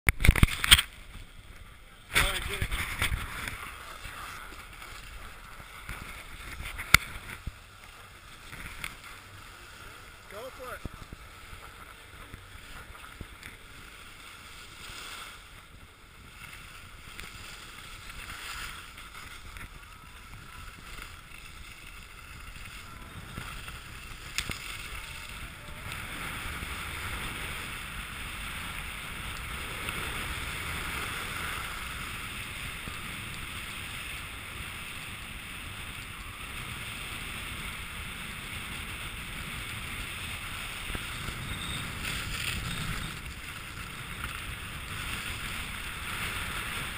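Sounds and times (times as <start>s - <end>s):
wind rumble on microphone: 0.1s - 46.9s
skis scraping over snow: 0.3s - 46.9s.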